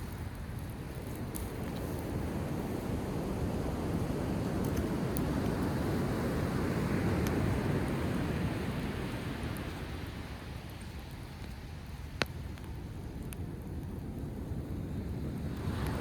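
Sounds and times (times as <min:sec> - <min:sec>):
campfire pops: 0:00.0 - 0:02.2, 0:04.4 - 0:06.1, 0:07.0 - 0:16.0.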